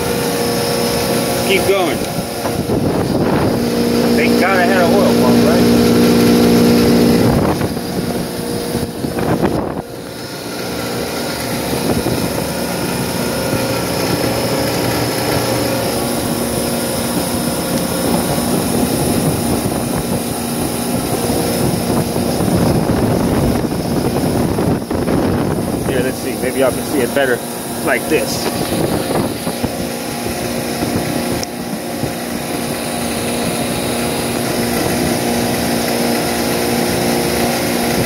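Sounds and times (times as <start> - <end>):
condensing unit mechanical hum: 0.0 - 38.0.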